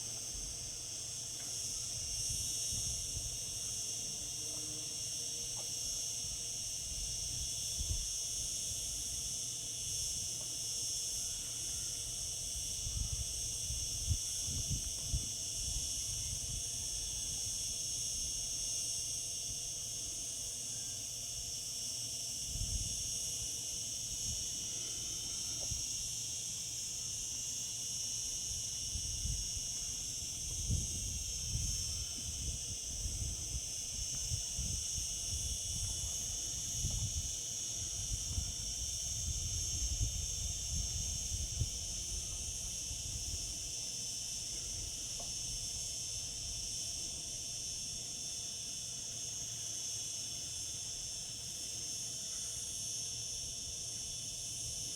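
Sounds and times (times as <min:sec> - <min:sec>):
cicadas singing: 0:00.0 - 0:54.9.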